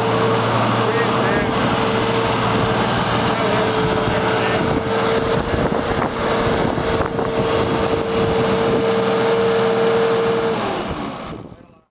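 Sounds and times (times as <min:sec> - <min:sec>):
steady high whine: 0:00.0 - 0:11.9
tractor diesel engine running: 0:00.0 - 0:11.9.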